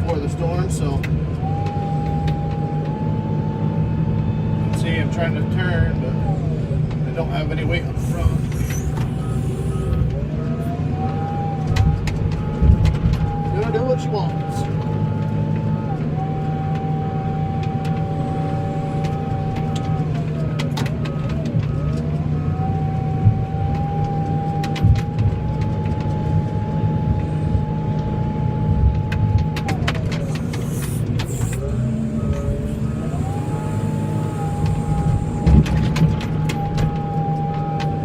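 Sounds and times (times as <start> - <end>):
engine whine: 0.0 - 38.0
truck engine running: 0.0 - 38.0.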